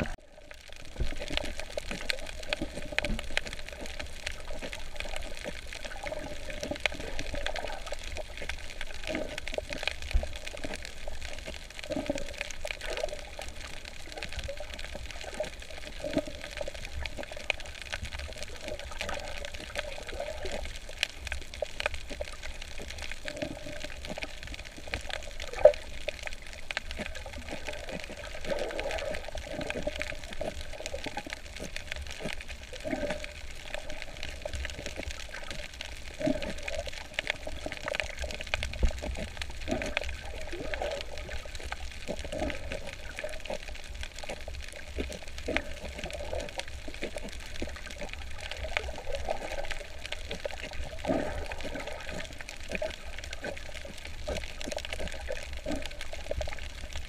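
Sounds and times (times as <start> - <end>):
water sloshing and bubbling: 0.0 - 57.0.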